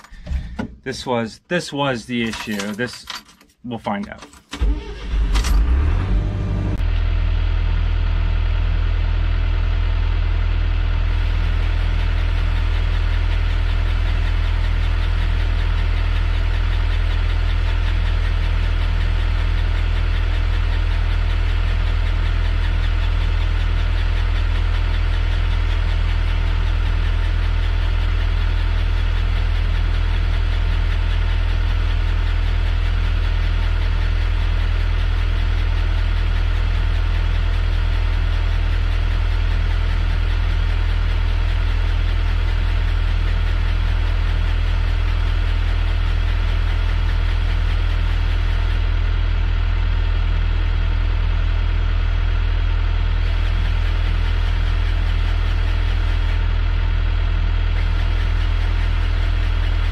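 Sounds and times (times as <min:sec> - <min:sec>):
excavator diesel engine idling: 0:04.6 - 0:59.9.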